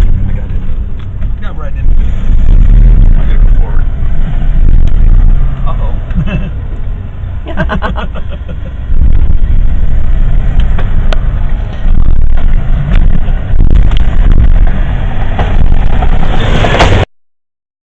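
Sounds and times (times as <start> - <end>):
bulldozer diesel engine: 0.0 - 17.0.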